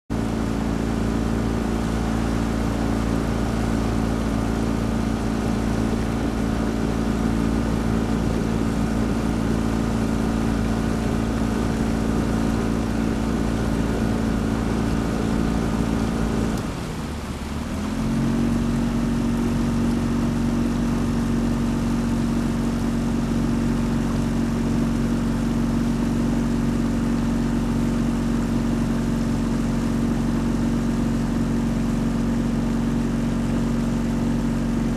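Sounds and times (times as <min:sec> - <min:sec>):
outboard engine running: 0:00.1 - 0:34.9.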